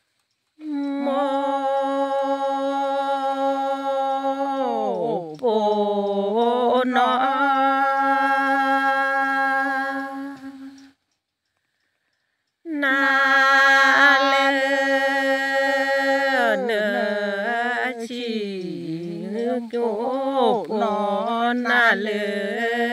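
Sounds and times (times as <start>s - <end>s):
person chanting: 0.6s - 11.0s, 12.7s - 22.9s.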